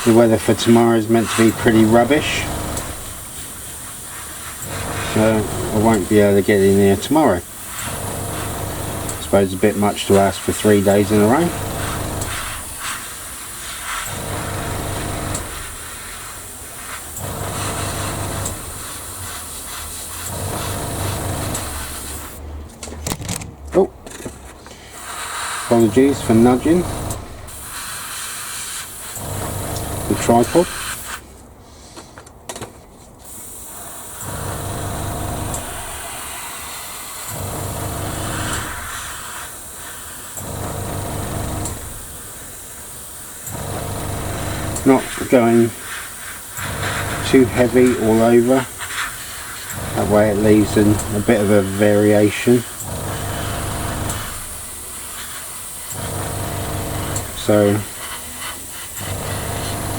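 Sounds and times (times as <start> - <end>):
airbrush hissing: 0.0 - 22.4, 24.8 - 31.3, 33.2 - 59.9
compressor motor hum: 0.0 - 22.4, 25.0 - 31.2, 33.4 - 59.9.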